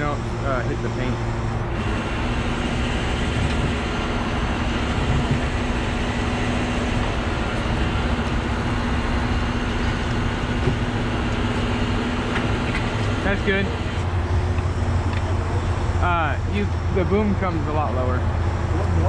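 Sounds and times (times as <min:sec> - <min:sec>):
hydraulic winch humming: 0:00.0 - 0:18.9
diesel engine running: 0:00.0 - 0:19.0.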